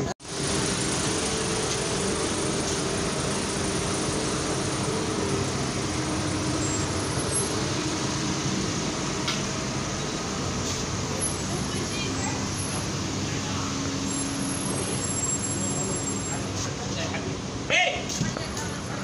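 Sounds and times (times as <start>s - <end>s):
car engines humming: 0.0s - 19.0s
traffic noise: 0.0s - 19.0s.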